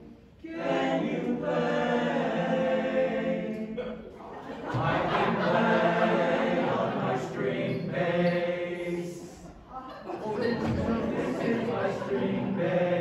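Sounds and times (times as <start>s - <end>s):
choir singing a cappella: 0.0s - 13.0s.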